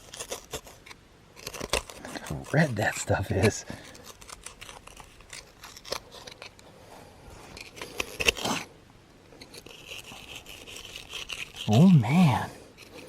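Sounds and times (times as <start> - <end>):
hand tools scraping on rock: 0.0 - 8.7, 9.3 - 13.0.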